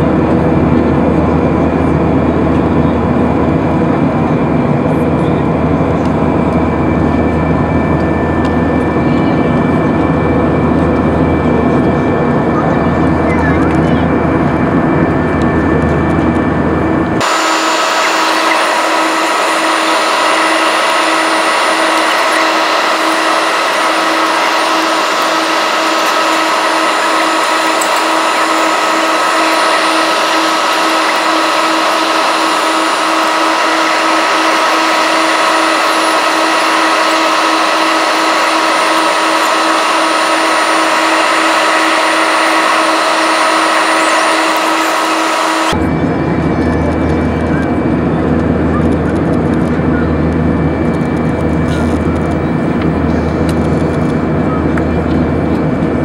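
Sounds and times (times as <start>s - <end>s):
airplane cabin noise: 0.0s - 56.0s
jet engine whining tones: 0.0s - 56.0s.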